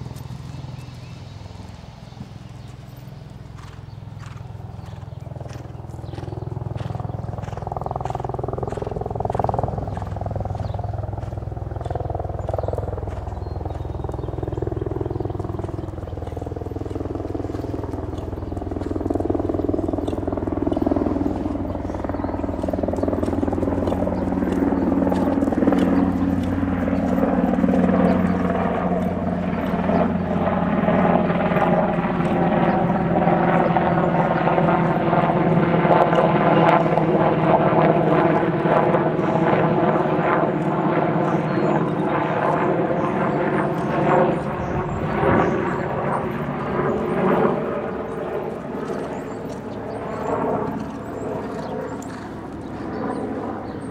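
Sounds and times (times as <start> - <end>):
engine drone: 0.0 - 53.9.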